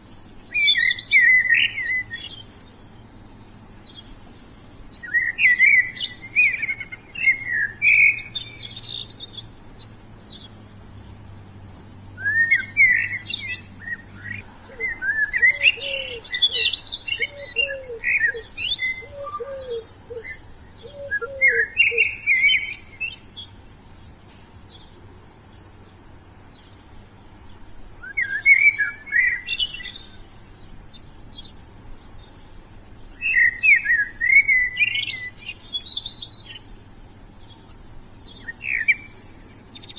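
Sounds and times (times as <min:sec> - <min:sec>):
songbirds twittering chirps: 0:00.0 - 0:39.9.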